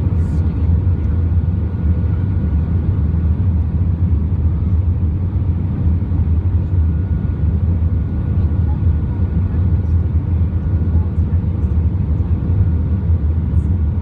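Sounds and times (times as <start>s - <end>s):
aircraft cabin engine rumble: 0.0s - 14.0s.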